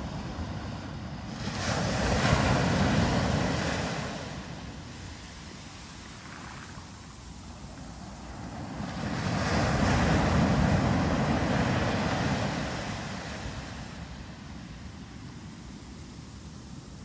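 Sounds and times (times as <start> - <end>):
ocean surf on sandy beach: 0.0 - 17.0.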